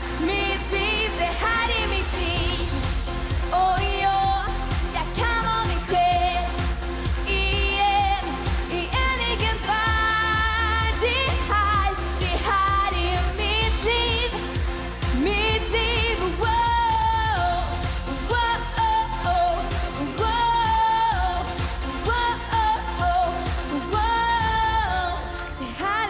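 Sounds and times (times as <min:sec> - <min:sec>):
backing track beat: 0:00.0 - 0:26.0
pop song with singing: 0:00.0 - 0:26.0.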